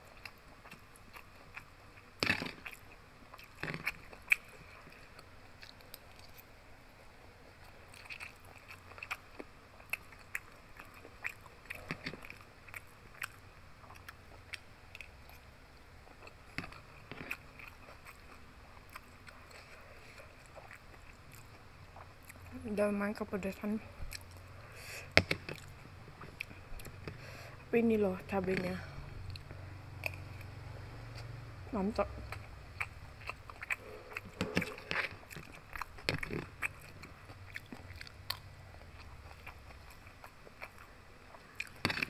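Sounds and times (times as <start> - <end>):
chewing and mouth sounds: 0.0 - 6.5, 7.6 - 42.0.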